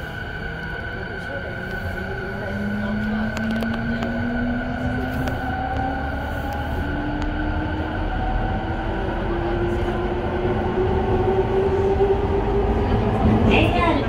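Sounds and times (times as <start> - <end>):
rail rumble: 0.0 - 14.0.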